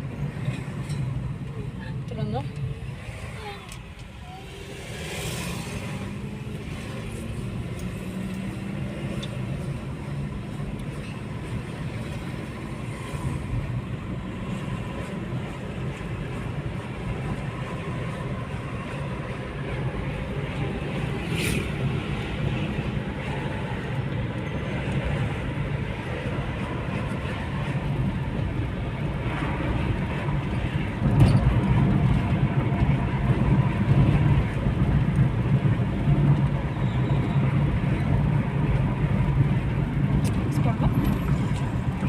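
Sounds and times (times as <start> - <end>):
road vehicle rumbling: 0.0 - 42.0.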